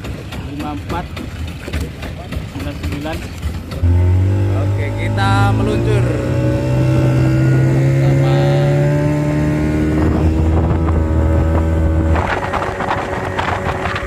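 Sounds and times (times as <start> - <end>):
speedboat engine accelerating: 0.0 - 14.0
water splashing on hull: 0.0 - 14.0.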